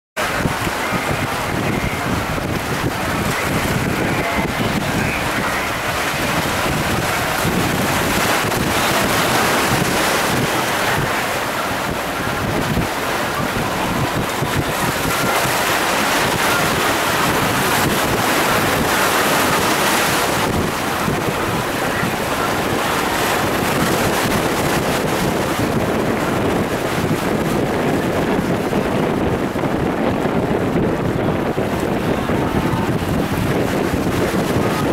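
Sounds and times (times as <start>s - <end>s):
sea surf washing: 0.2s - 34.9s
wind on microphone: 0.2s - 34.9s.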